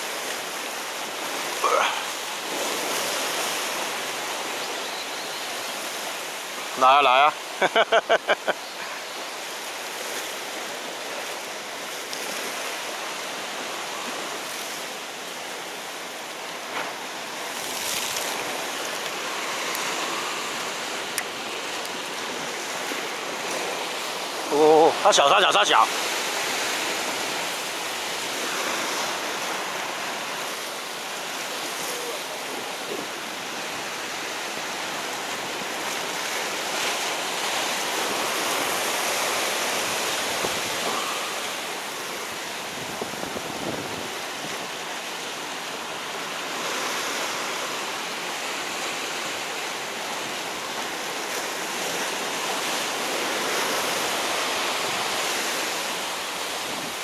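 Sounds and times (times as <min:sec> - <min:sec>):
sea surf on rocky shore: 0:00.0 - 0:57.0.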